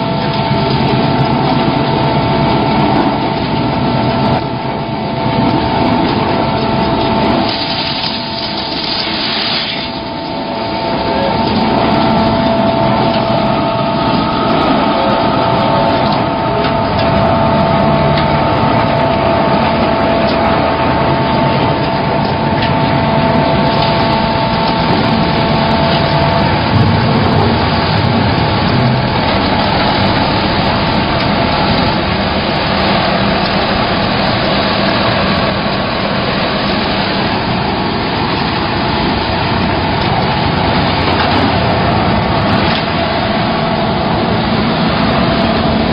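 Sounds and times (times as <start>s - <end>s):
concrete pump machine drone: 0.0s - 45.9s
high steady whine: 0.0s - 45.9s.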